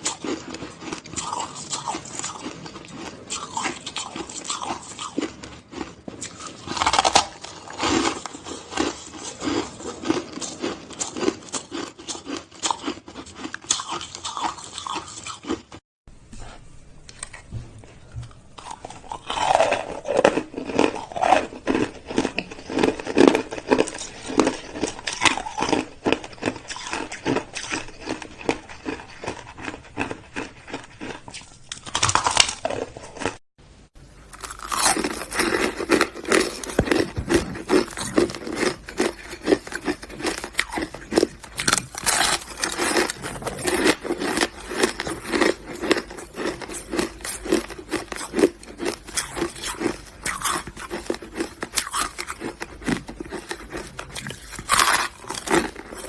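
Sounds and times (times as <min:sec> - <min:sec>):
crisp crunches of chewing ice: 0:00.0 - 0:15.8, 0:18.6 - 0:33.4, 0:34.3 - 0:56.0.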